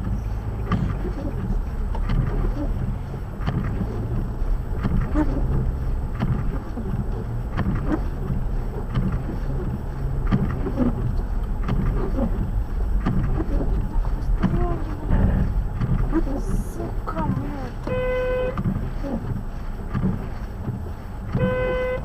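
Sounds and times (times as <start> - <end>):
blizzard wind rumbling on microphone: 0.0 - 22.0.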